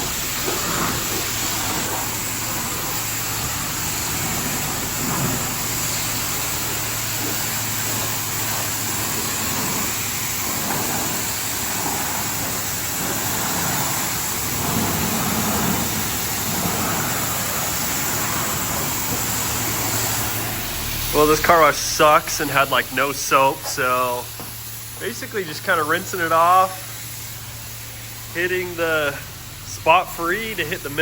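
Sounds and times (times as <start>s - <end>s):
pressure washer spraying car: 0.0s - 31.0s.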